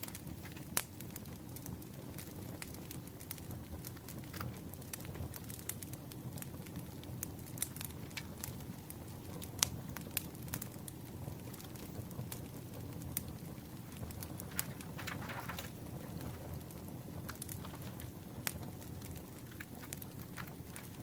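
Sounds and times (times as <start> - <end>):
campfire crackling: 0.0 - 21.0
fire pops and snaps: 0.0 - 21.0.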